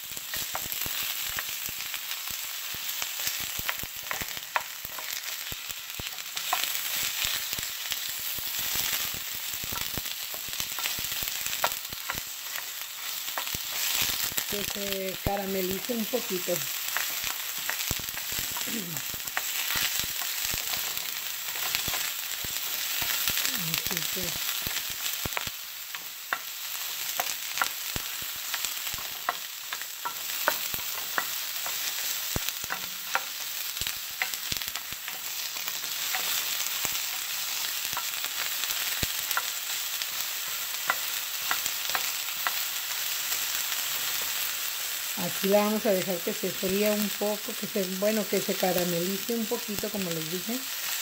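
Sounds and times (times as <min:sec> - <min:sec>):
onion sizzling in oil: 0:00.0 - 0:51.0.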